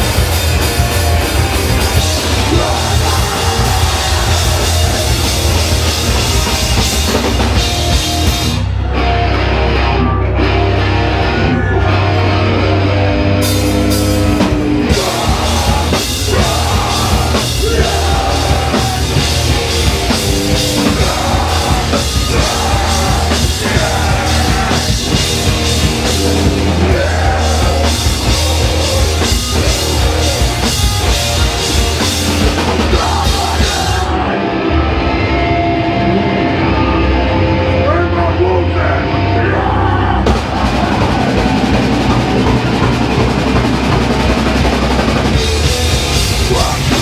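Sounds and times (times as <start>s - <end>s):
drum kit: 0.0s - 9.4s, 10.4s - 37.3s, 39.2s - 47.0s
bass guitar: 0.0s - 47.0s
distorted electric guitars: 0.0s - 47.0s.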